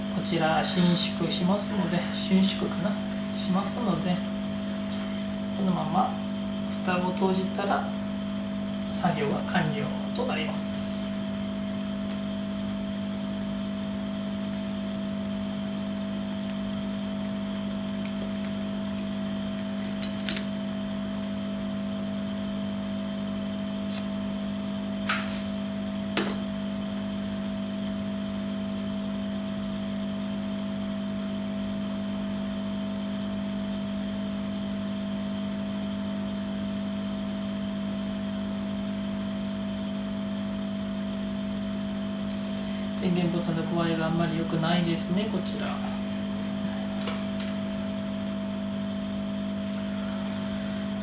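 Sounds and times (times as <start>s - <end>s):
electrical hum: 0.0s - 51.0s.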